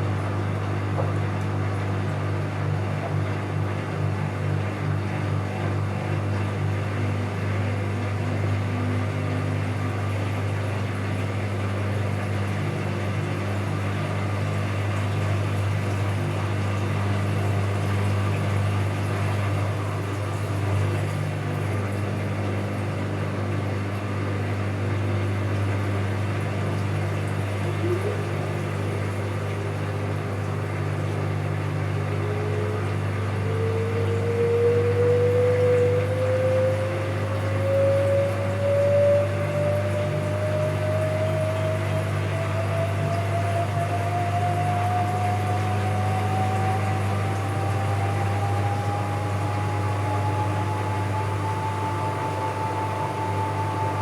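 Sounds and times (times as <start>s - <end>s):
washing machine humming: 0.0s - 54.0s
motor whine rising in pitch: 4.1s - 54.0s.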